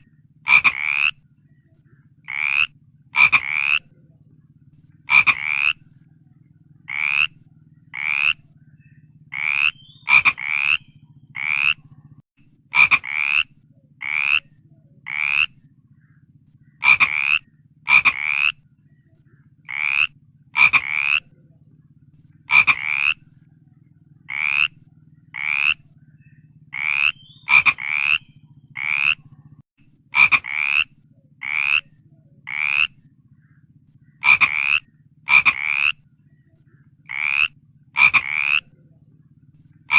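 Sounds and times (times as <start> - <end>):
frog croaking: 0.0 - 1.4, 2.0 - 36.2, 36.8 - 39.9
low steady hum: 0.0 - 39.9.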